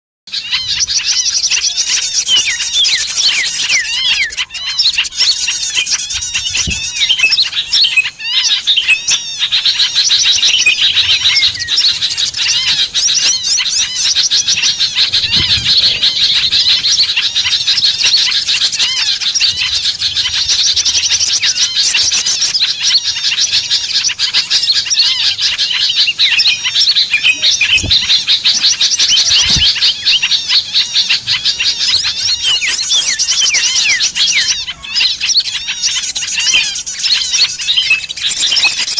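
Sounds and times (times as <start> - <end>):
small songbirds chirping and twittering: 0.3 - 38.9.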